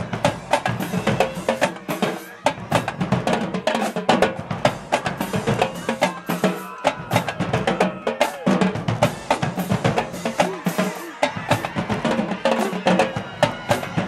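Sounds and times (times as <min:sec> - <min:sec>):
snare drums: 0:00.0 - 0:14.0.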